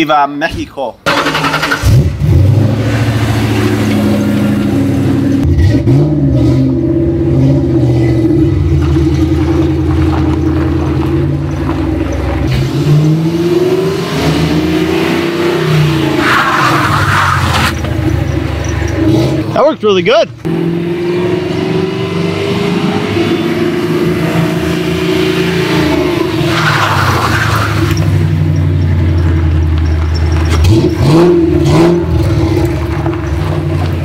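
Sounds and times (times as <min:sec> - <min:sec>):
car engine revving: 0:01.0 - 0:34.0.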